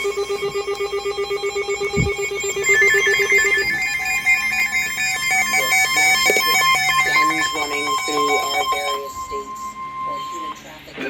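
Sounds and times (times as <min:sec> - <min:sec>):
low pulsing alert tone: 0:00.0 - 0:10.6
warbling two-pitch tones: 0:00.0 - 0:10.6.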